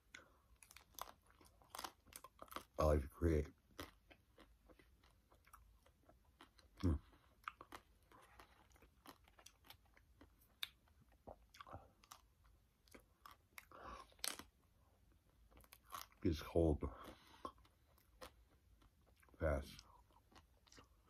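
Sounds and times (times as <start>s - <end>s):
chewing ice cream bar: 0.0s - 21.0s.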